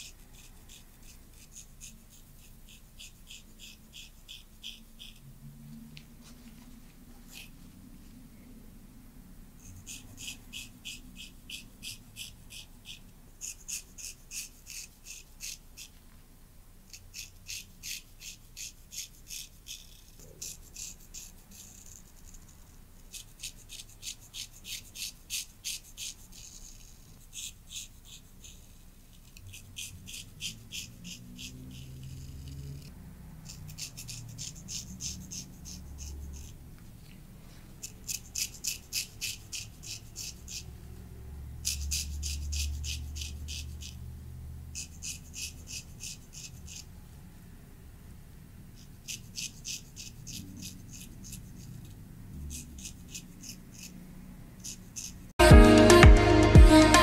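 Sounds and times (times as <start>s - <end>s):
razor scraping stubble: 0.0s - 5.3s, 7.2s - 7.6s, 9.6s - 16.0s, 16.9s - 40.8s, 41.6s - 44.0s, 44.7s - 46.9s, 48.7s - 54.0s, 54.6s - 55.3s.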